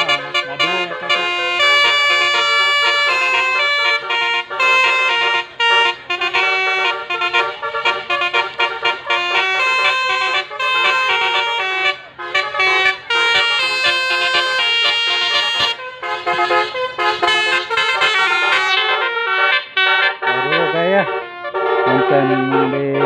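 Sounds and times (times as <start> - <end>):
bus horns playing melodies: 0.0 - 23.0.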